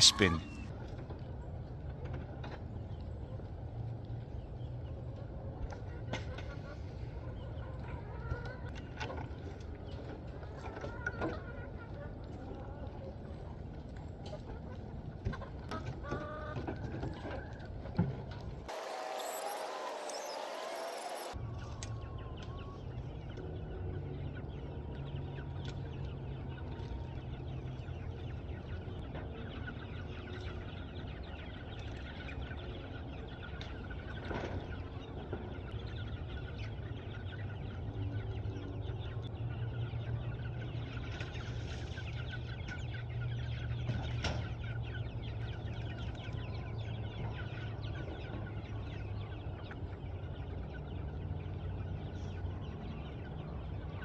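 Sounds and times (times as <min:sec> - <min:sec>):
chickens clucking: 0:00.0 - 0:19.8, 0:21.2 - 0:54.0.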